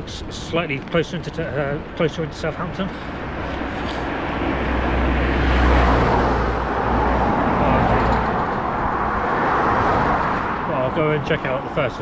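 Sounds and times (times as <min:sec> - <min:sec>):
car traffic passing: 0:00.0 - 0:12.0.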